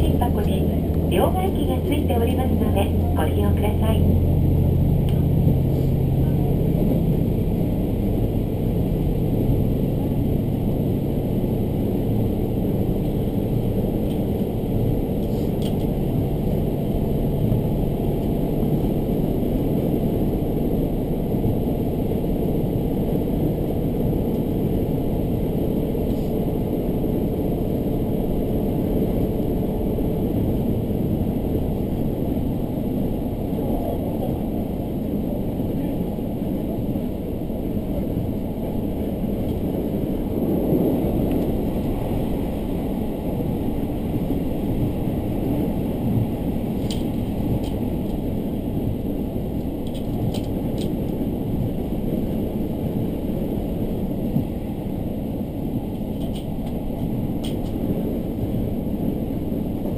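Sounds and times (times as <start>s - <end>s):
diesel engine drone: 0.0s - 59.9s
wheels rumbling on rails: 0.0s - 59.9s.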